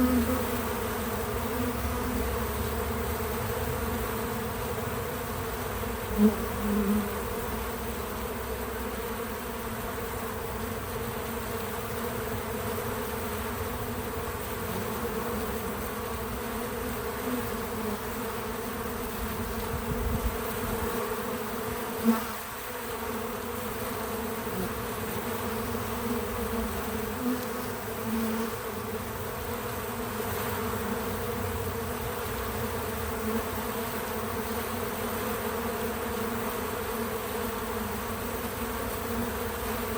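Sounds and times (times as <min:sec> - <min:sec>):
bee buzzing close to microphone: 0:00.0 - 0:39.9
bees buzzing: 0:00.0 - 0:39.9.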